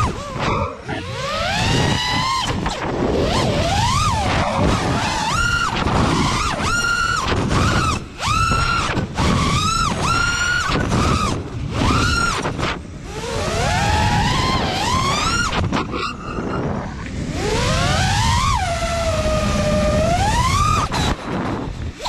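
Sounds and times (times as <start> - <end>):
drone motors whining: 0.0 - 22.0
wind rush: 0.0 - 22.0.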